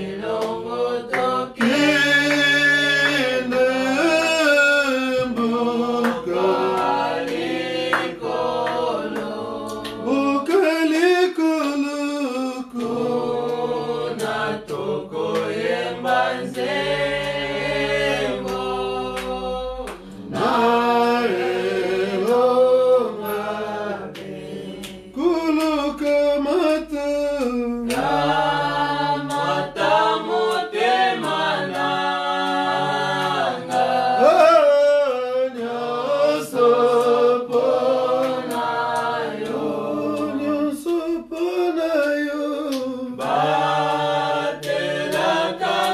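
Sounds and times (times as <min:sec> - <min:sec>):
unaccompanied hymn singing: 0:00.0 - 0:45.9.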